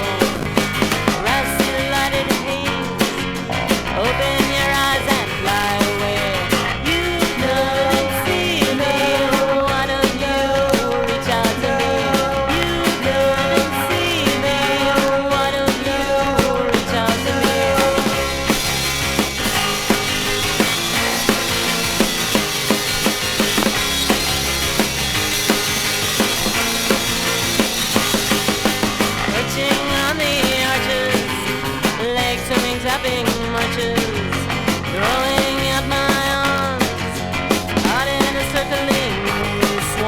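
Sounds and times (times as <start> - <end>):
garage rock band playing: 0.0 - 40.0.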